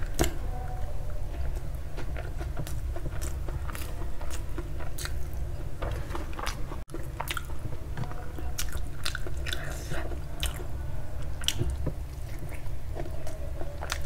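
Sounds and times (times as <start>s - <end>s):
low hum: 0.0s - 14.0s
wet chewing mouth sounds: 1.4s - 14.0s.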